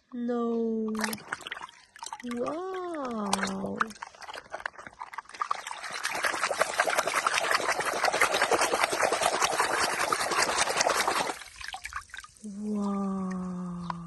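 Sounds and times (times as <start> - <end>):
water spraying and splashing: 0.9 - 13.5.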